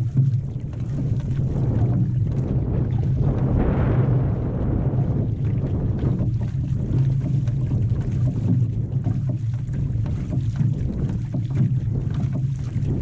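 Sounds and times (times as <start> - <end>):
paddle blades catching water: 0.0 - 13.0
water splashing along hull: 0.0 - 13.0
wind rumbling on microphone: 0.0 - 13.0.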